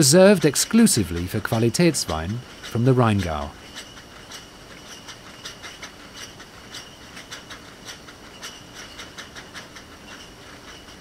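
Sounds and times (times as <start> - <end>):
low steady machine noise: 0.0 - 11.0.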